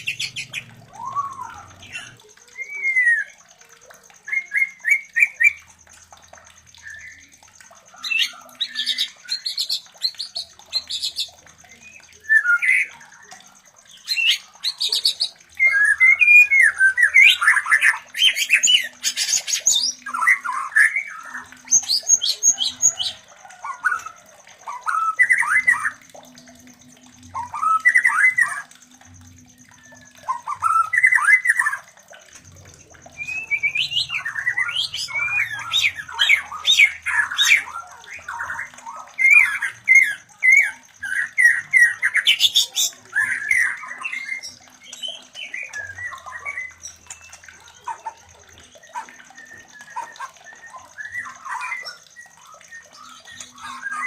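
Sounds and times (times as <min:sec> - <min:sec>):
birds squawking and whistling: 0:00.0 - 0:54.0.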